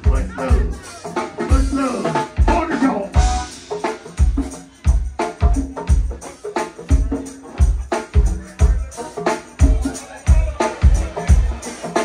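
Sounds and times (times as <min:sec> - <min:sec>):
live band playing: 0:00.0 - 0:12.0.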